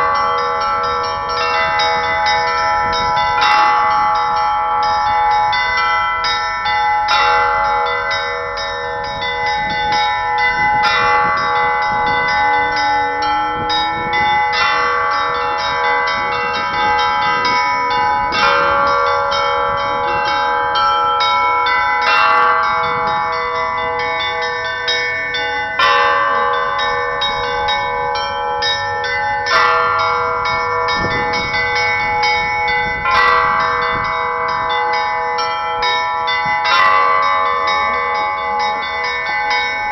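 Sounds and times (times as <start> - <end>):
heavy bell stroke: 0.0 - 39.9
hum of bells: 0.0 - 39.9.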